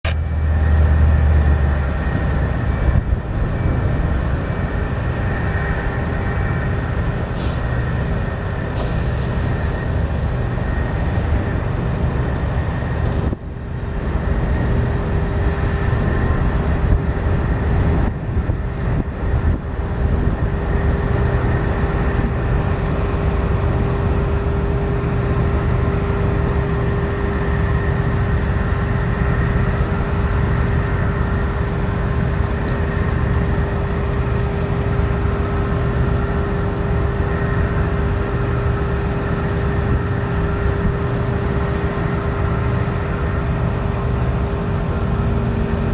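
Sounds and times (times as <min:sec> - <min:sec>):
heavy engine rumbling: 0:00.0 - 0:45.9
steady engine whine: 0:00.0 - 0:45.9.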